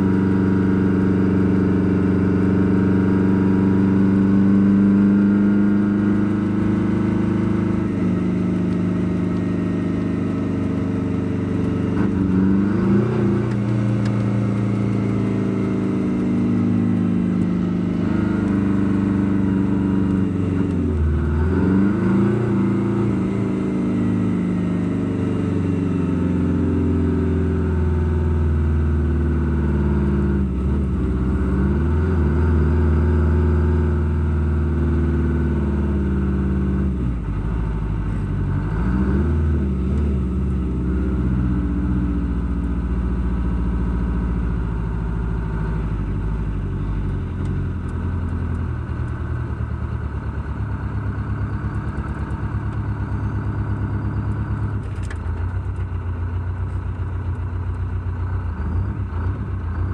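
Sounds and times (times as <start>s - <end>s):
car engine and exhaust driving: 0.0s - 59.9s.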